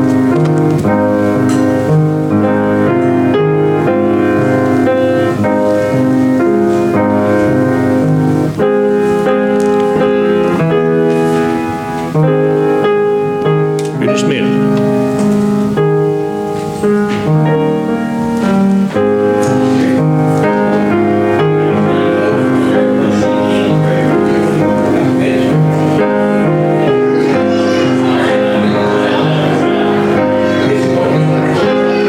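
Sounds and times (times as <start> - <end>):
piano playing held chords: 0.0 - 32.0.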